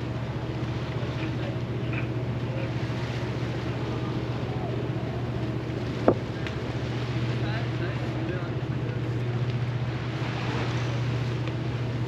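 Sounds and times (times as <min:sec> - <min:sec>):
low engine hum: 0:00.0 - 0:12.0
water rushing: 0:00.0 - 0:12.0.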